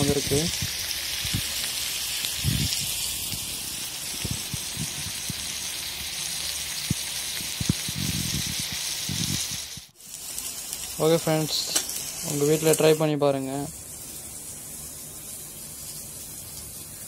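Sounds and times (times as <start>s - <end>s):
meat sizzling on a griddle: 0.0s - 17.0s.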